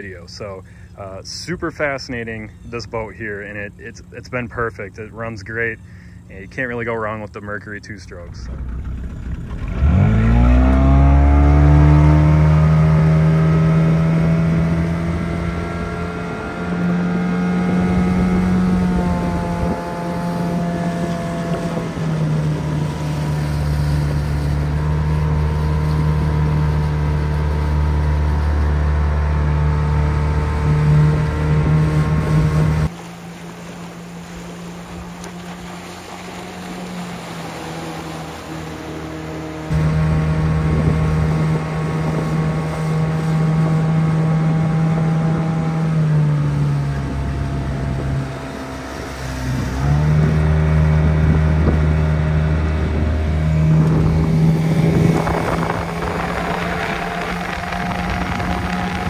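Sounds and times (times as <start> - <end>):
distant small boat engine: 0.0 - 59.0
outboard motor revving: 0.0 - 59.0.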